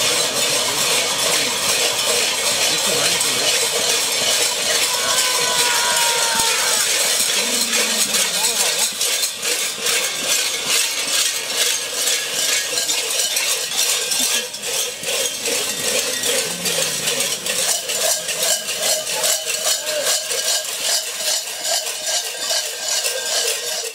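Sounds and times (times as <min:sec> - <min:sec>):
bells jangling and clanking: 0:00.0 - 0:23.9
steady ringing tone: 0:00.0 - 0:23.9.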